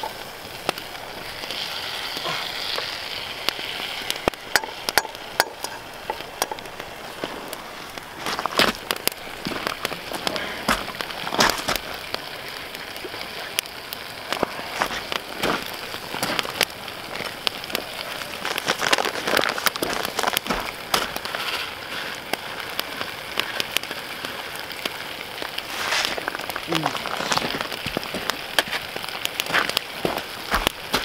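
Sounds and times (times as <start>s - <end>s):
campfire crackling and popping: 0.0s - 31.0s
food sizzling in pans: 0.0s - 31.0s.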